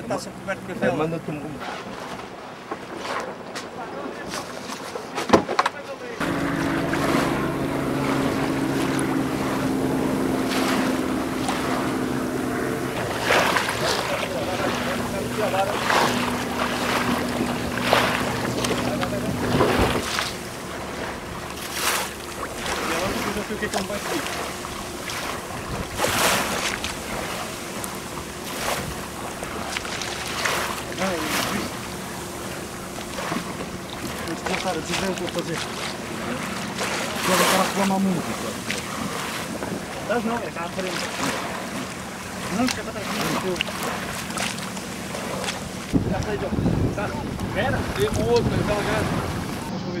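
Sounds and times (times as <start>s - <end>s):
boat motor running: 0.0s - 50.0s
wind: 0.0s - 50.0s
lapping water: 6.2s - 49.8s.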